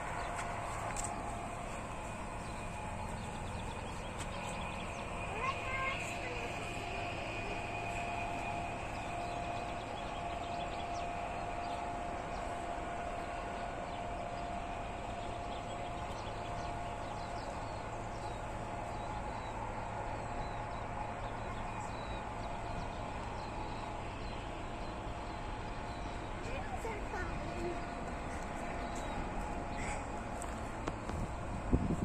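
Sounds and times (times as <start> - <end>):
small birds chirping: 0.0 - 12.7, 13.3 - 32.0.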